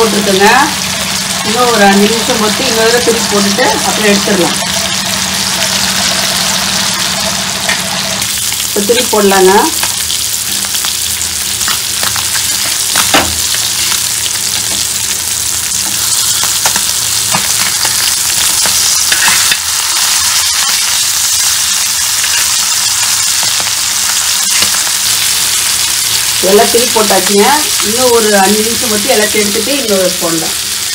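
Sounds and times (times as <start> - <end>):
fish sizzling in oil: 0.0 - 30.9.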